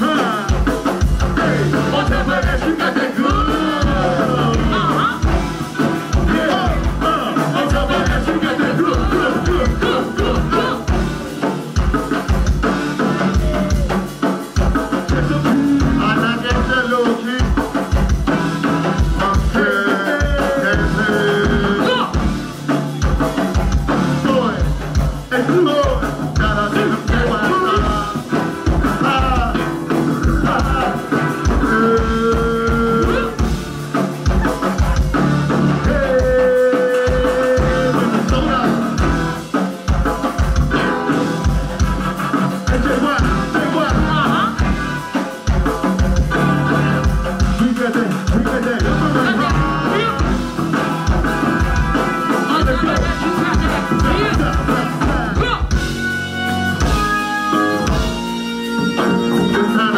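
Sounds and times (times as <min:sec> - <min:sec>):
live band playing: 0:00.0 - 0:59.9.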